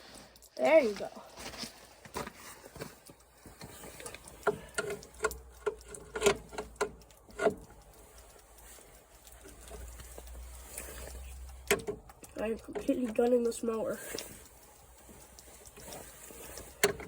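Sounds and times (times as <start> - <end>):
metallic tool clicks and clanks: 2.2 - 17.0.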